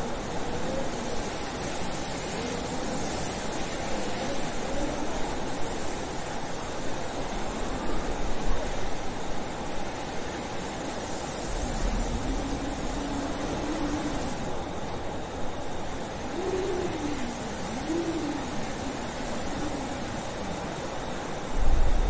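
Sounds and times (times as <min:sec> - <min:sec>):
blizzard wind rushing: 0:00.0 - 0:22.0
low howling wind: 0:00.0 - 0:22.0.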